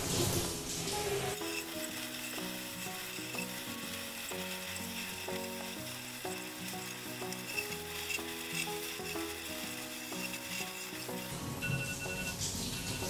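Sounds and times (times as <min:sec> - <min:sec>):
shower running: 0:00.0 - 0:13.0
simple melody background music: 0:00.1 - 0:13.0.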